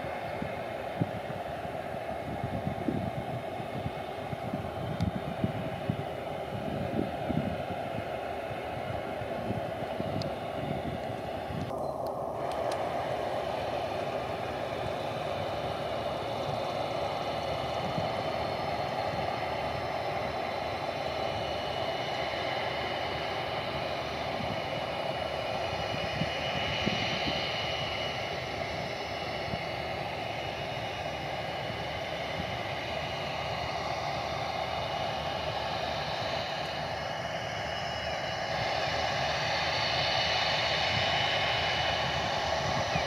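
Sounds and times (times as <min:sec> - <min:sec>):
jet airliner engines taxiing: 0:00.0 - 0:43.0.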